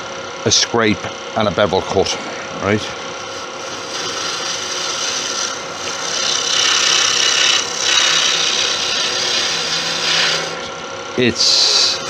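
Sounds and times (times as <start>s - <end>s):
lathe motor hum: 0.0s - 12.0s
gouge scraping spinning antler: 1.5s - 12.0s.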